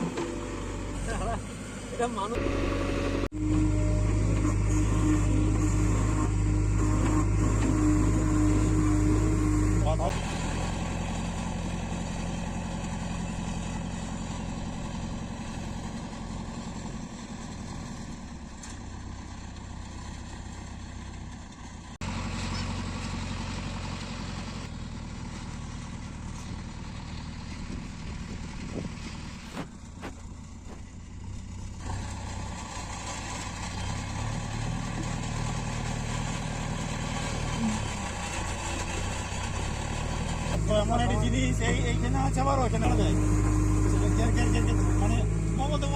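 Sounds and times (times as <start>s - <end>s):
backhoe diesel engine working: 0.0s - 45.9s.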